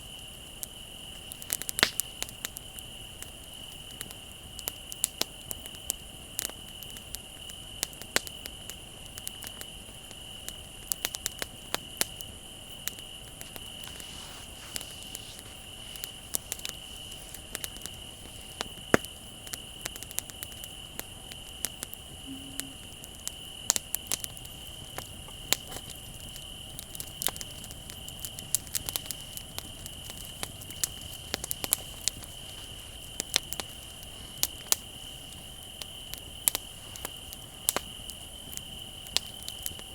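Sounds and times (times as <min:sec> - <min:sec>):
crickets trilling: 0:00.0 - 0:39.9
wood fire crackling and popping: 0:00.0 - 0:39.9.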